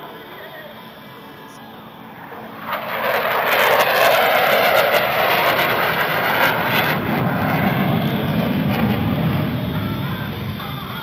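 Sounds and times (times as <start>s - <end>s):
fighter jet engine roaring: 1.7s - 11.0s.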